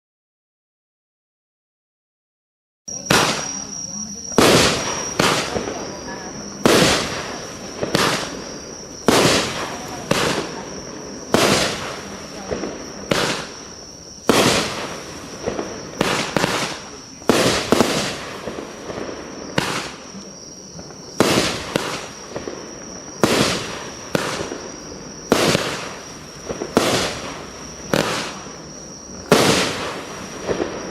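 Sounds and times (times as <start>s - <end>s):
fireworks bangs: 2.9s - 30.9s.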